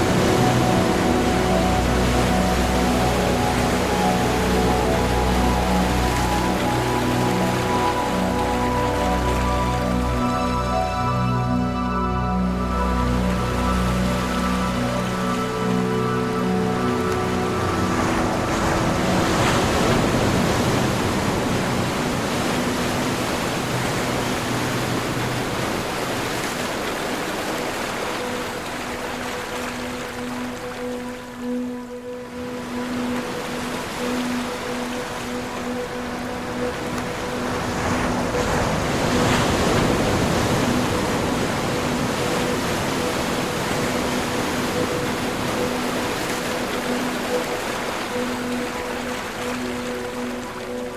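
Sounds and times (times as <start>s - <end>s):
ocean waves washing ashore: 0.0s - 50.9s.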